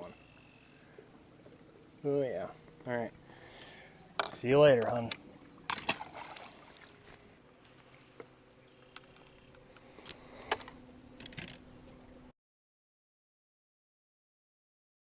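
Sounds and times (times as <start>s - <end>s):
faint steady hum: 0.0s - 12.3s.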